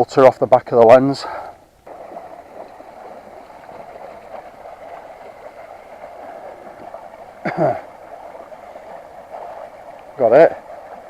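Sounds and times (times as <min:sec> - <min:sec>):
stream water rushing: 0:01.8 - 0:11.0.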